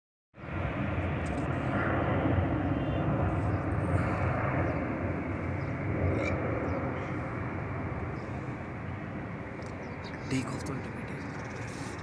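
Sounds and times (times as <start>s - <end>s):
airliner engine rumble in cabin: 0.4s - 12.0s.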